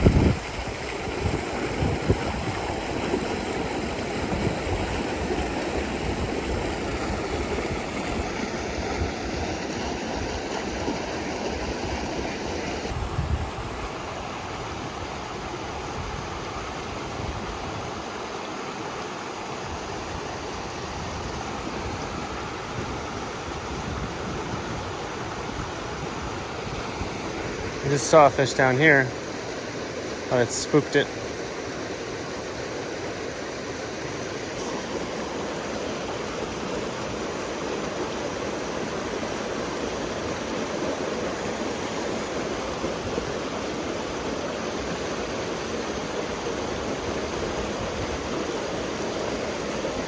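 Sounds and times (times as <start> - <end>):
creek water rushing over rocks: 0.0 - 50.0.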